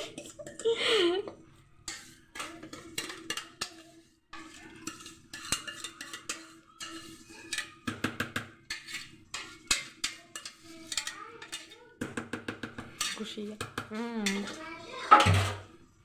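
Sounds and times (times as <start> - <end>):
spoon scraping a dish: 1.4 - 15.9.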